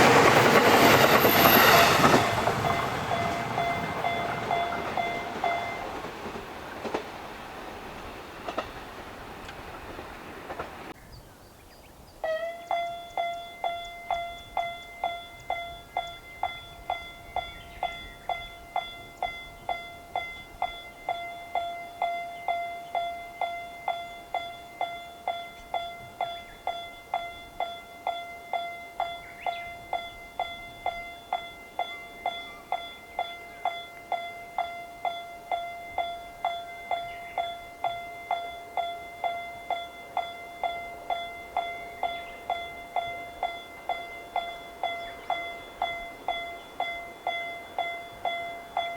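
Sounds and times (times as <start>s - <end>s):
crossing warning bell dinging: 0.0s - 11.0s, 12.2s - 48.9s.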